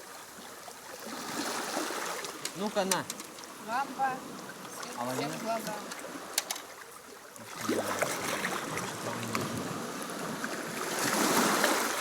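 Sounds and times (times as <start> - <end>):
sea surf washing onto beach: 1.1 - 12.0.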